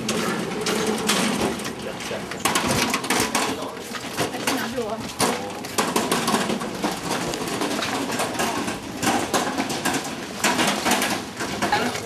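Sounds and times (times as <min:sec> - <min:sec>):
metal pushcart rattling: 0:00.0 - 0:12.0.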